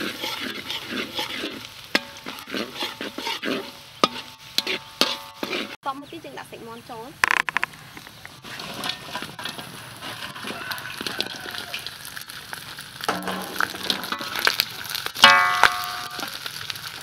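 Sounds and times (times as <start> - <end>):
chicken sizzling in hot oil: 0.0 - 5.8, 8.1 - 17.0
metal spatula scraping wok: 0.0 - 5.8, 8.3 - 16.9.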